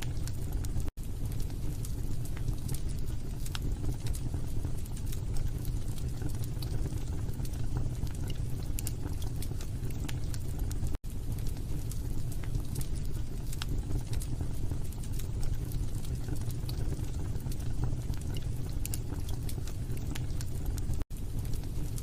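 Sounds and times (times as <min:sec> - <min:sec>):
log fire crackling: 0:00.0 - 0:22.0.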